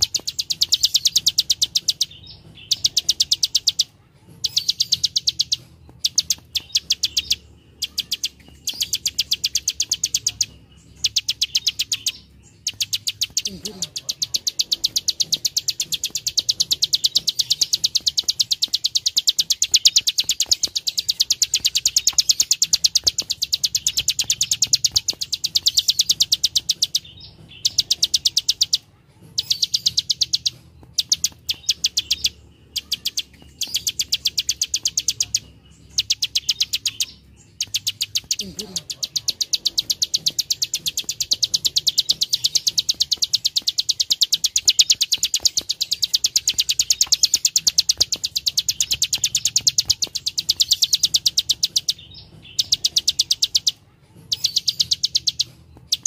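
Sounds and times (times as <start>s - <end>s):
bird clicking call: 0.0s - 56.0s.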